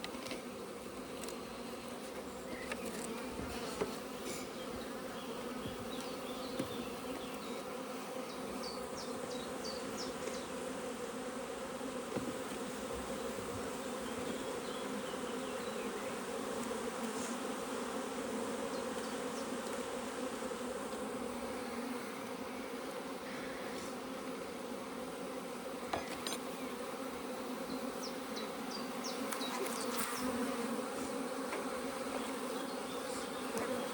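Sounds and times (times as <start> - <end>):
bees buzzing: 0.0 - 33.9.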